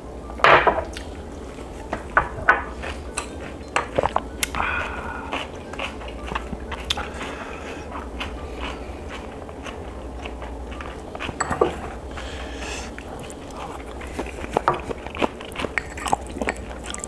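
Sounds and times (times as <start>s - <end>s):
low steady hum: 0.0s - 17.0s
close chewing and mouth smacks: 0.9s - 17.0s.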